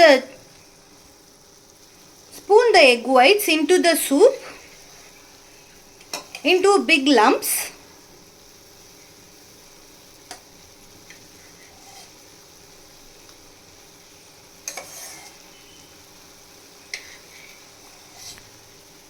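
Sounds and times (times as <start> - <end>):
soup simmering hiss: 0.0 - 19.0.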